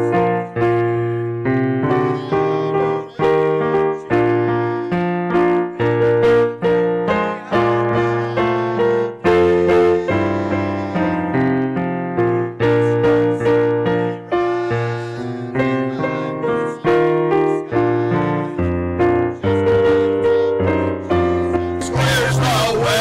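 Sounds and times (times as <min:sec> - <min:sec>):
keyboard playing hymn chords: 0:00.0 - 0:23.0.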